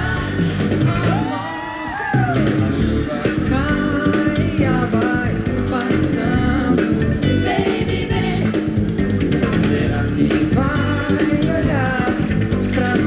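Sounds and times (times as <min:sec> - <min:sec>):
live pop band with singing: 0:00.0 - 0:13.0.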